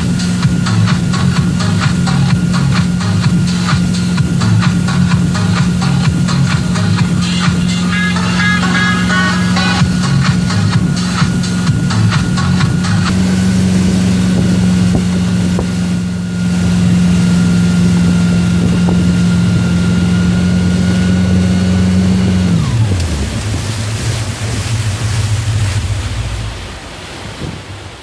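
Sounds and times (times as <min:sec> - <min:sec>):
motorboat engine running: 0:00.0 - 0:28.0
water wash: 0:00.0 - 0:28.0
wind: 0:00.0 - 0:28.0.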